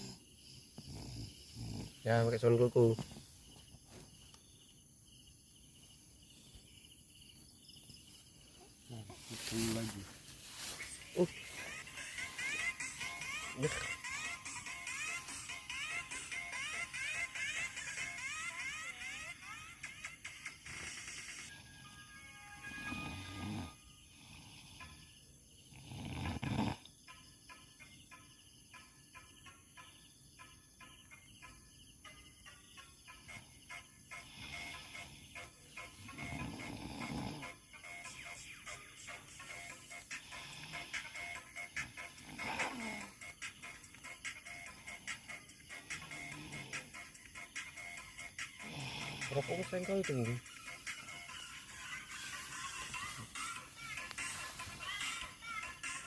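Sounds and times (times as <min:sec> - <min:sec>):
crickets chirping: 0:00.0 - 0:56.0
high-pitched insect drone: 0:00.0 - 0:56.0.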